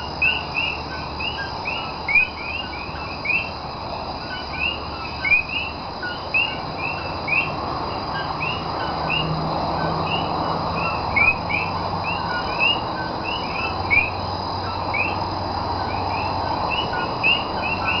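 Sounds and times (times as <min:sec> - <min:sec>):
frogs chorus calling: 0:00.0 - 0:18.0
steady high-pitched hum: 0:00.0 - 0:18.0.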